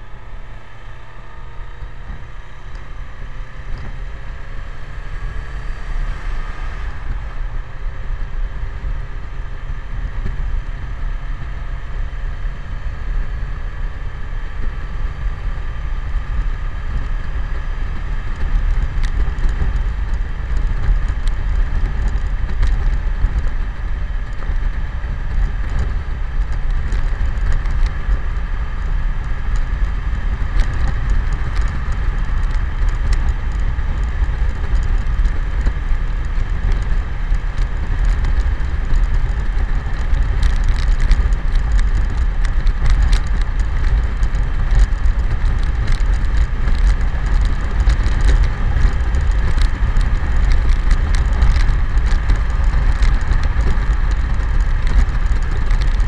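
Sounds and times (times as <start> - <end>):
motorcycle engine running: 0.0 - 56.0
wind and road noise rumble: 0.0 - 56.0.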